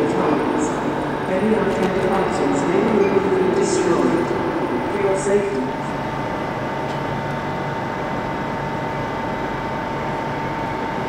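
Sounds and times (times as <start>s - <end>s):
station hall rushing noise: 0.0s - 11.0s.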